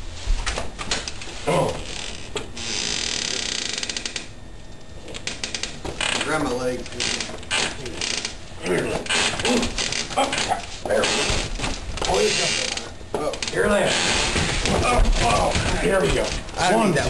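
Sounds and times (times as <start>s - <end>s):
squeaks and creaks: 0.9s - 4.3s, 5.0s - 17.0s.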